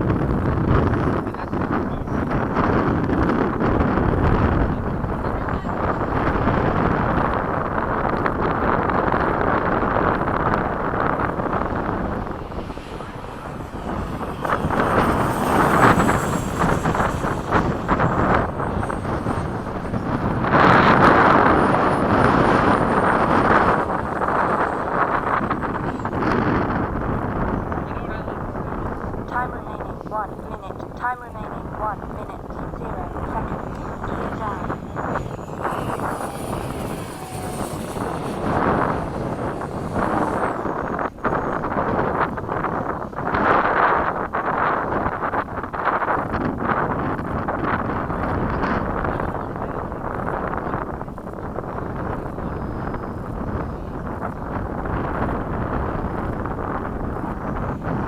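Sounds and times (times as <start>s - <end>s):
model jet fan whine: 0.0s - 58.0s
wind buffeting microphone: 0.0s - 58.0s.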